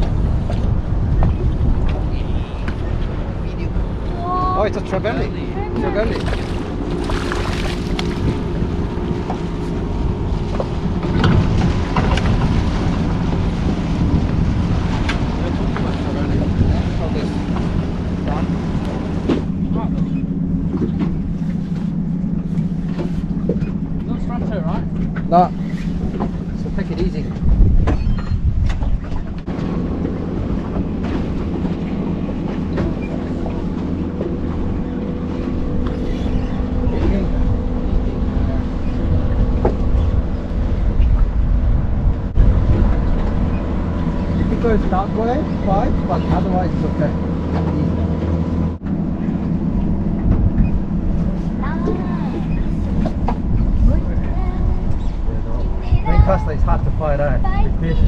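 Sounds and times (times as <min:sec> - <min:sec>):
boat engine rumble: 0:00.0 - 0:58.0
wind buffeting microphone: 0:00.0 - 0:58.0.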